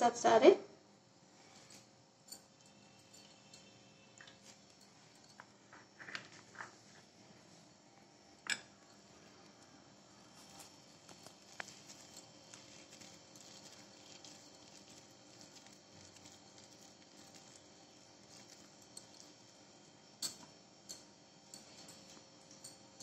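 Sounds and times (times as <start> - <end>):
faint room hum: 0.0 - 23.0.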